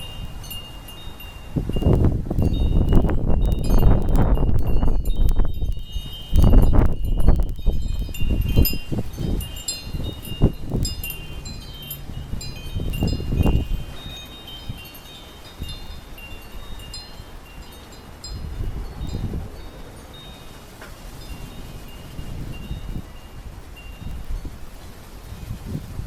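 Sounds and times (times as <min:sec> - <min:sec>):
wind chimes ringing: 0:00.0 - 0:25.8
wind buffeting microphone: 0:00.0 - 0:26.0.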